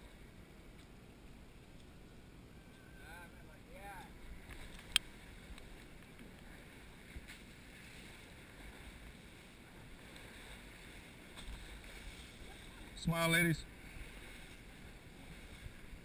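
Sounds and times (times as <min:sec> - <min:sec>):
shallow stream water: 0:00.0 - 0:16.0.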